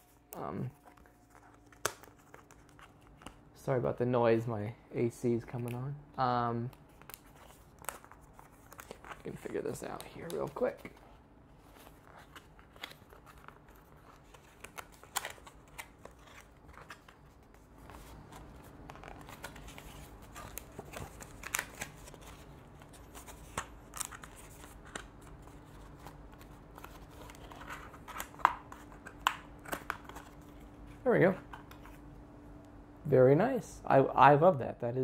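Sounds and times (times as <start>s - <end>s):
air conditioner humming: 0.0s - 35.0s.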